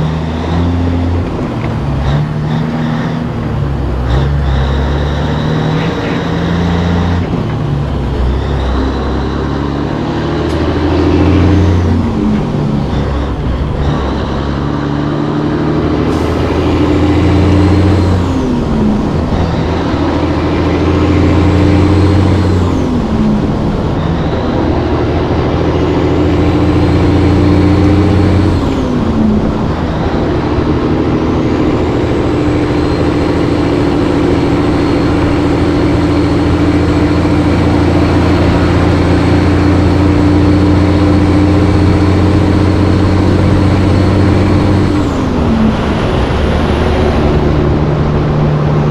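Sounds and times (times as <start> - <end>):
diesel truck engine pulling: 0.0 - 48.9.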